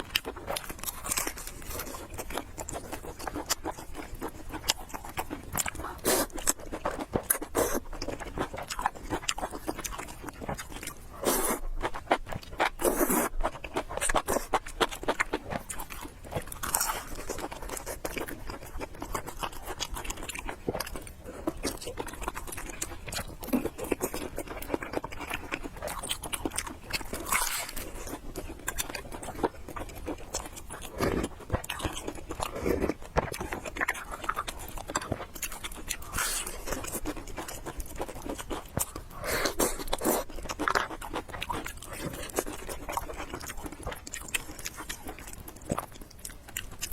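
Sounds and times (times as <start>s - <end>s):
wet chewing and slurping: 0.0s - 46.9s.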